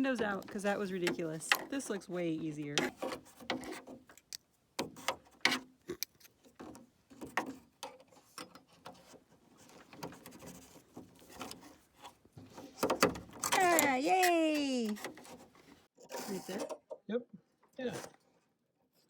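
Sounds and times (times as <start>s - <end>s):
metallic clicks taps and scrapes: 0.1s - 15.7s.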